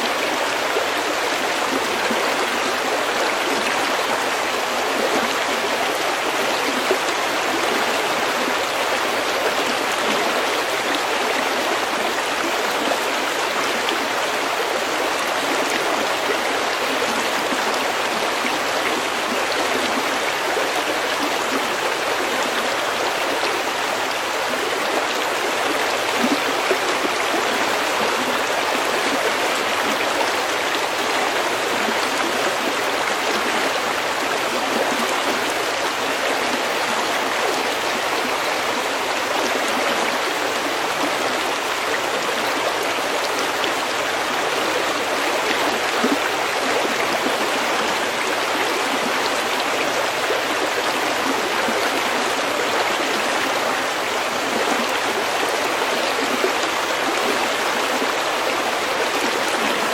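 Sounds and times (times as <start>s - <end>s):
stream babbling over pebbles: 0.0s - 59.9s.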